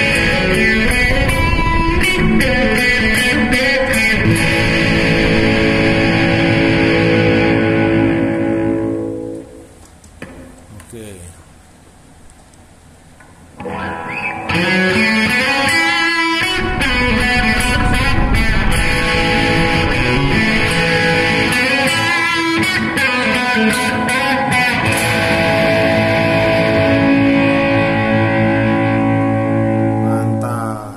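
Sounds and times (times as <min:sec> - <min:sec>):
electric guitar riffing: 0:00.0 - 0:09.8, 0:13.6 - 0:30.9
guitar chord ringing: 0:00.0 - 0:09.8, 0:13.6 - 0:30.9.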